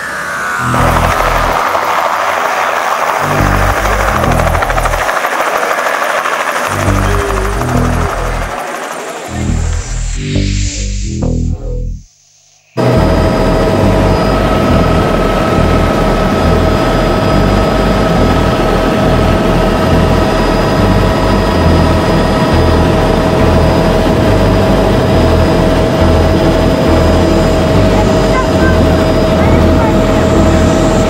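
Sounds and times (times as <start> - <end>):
helicopter rotor noise: 0.0 - 12.1, 12.8 - 31.0
helicopter turbine whine: 0.0 - 31.0.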